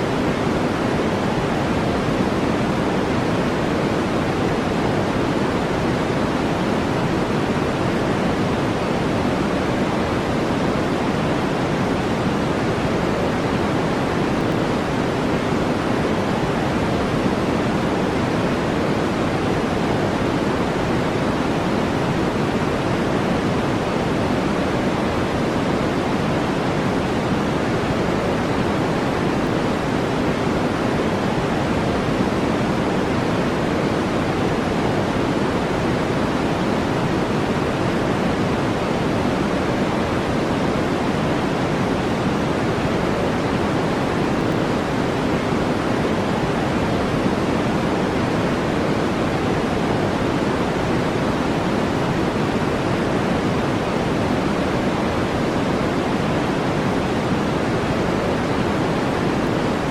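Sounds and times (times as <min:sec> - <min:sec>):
brown noise rush: 0:00.0 - 0:59.9.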